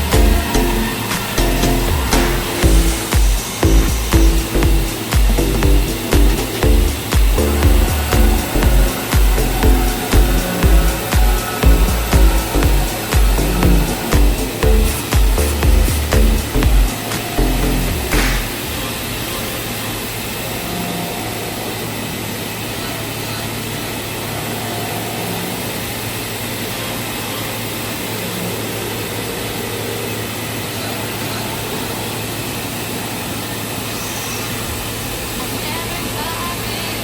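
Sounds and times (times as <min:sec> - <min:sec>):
milling machine running: 0:00.0 - 0:36.6.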